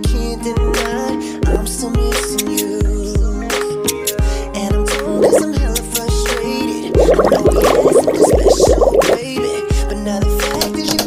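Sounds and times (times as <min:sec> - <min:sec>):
hip hop music with deep beat: 0:00.8 - 0:10.6.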